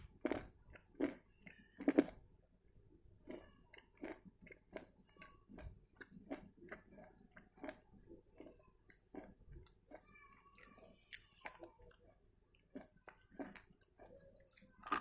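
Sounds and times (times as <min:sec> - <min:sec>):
chewing soft crunches: 0:00.2 - 0:02.2, 0:03.3 - 0:15.0.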